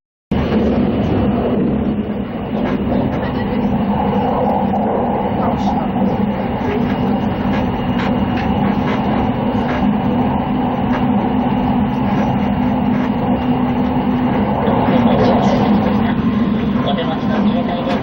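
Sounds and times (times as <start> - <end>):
train rumble inside carriage: 0.3 - 18.0
rail clicks: 2.0 - 18.0.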